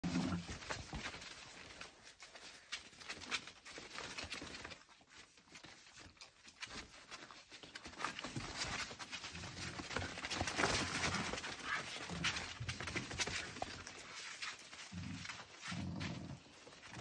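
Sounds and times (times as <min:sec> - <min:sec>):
dog paws scrabbling on tarp: 0:00.1 - 0:17.0.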